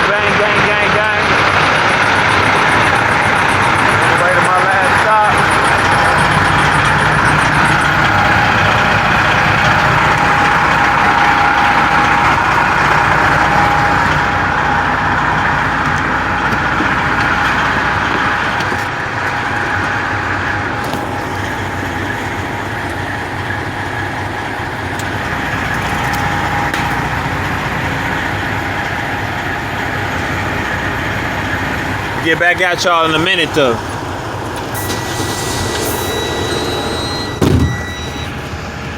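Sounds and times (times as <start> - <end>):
road noise: 0.0 - 38.9
truck diesel engine running: 0.0 - 38.9.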